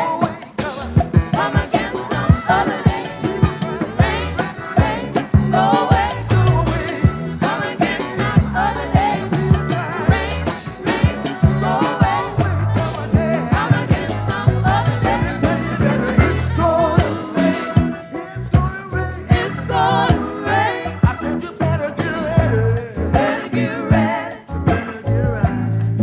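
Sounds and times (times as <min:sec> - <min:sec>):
wavering vocals: 0:00.0 - 0:25.8
bass: 0:00.0 - 0:26.0
drums keeping steady beat: 0:00.0 - 0:26.0
keyboards: 0:00.0 - 0:26.0.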